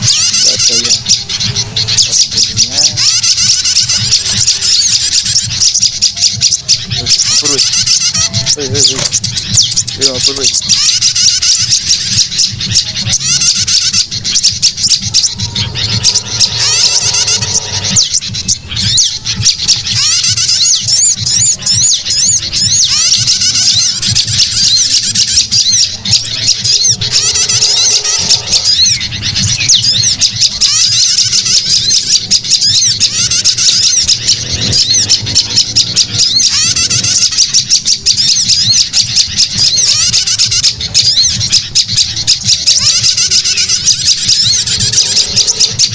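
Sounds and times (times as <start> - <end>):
lower bird call: 0.0 - 45.9
small songbirds chirping rapidly: 0.0 - 45.9
steady low hum: 0.0 - 45.9.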